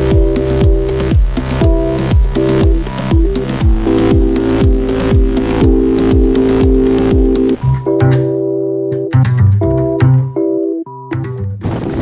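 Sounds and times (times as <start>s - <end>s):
keyboard chords: 0.0s - 11.7s
bass line: 0.0s - 11.9s.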